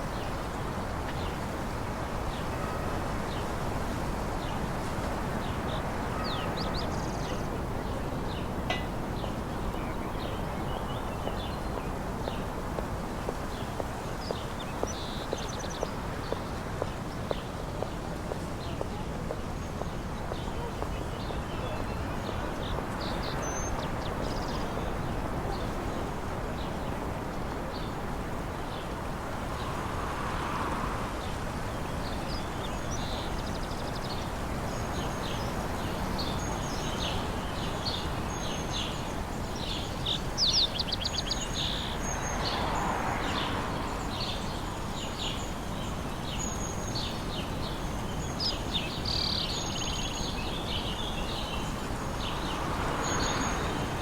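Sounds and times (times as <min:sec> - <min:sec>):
outdoor background hush: 0:04.4 - 0:54.0
small birds chirping: 0:05.4 - 0:27.0, 0:31.2 - 0:54.0.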